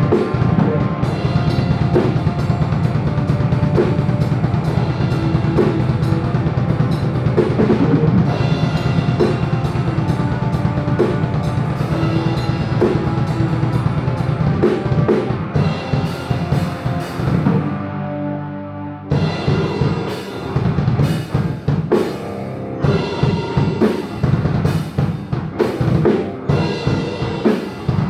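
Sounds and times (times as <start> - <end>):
drum kit beating: 0.0 - 18.0, 19.1 - 28.0
electric guitars and bass: 0.0 - 28.0.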